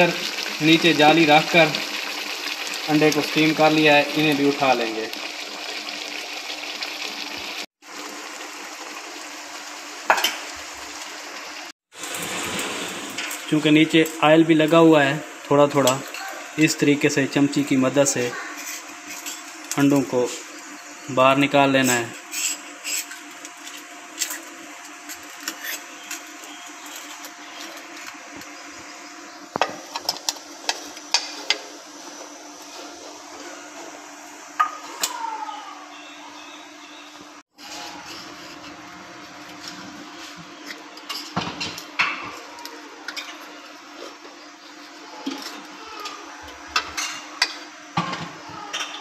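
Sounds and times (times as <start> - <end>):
wok simmering sizzle: 0.0 - 49.0.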